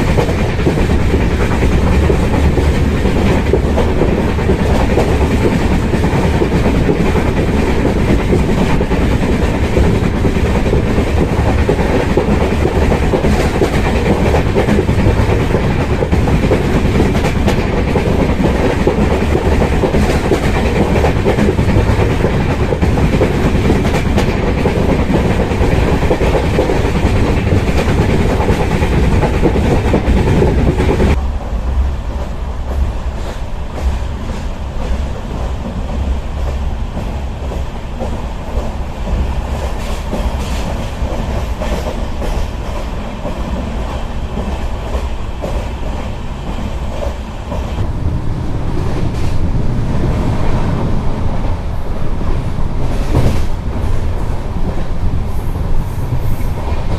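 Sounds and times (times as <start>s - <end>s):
train rumbling on board: 0.0s - 56.9s.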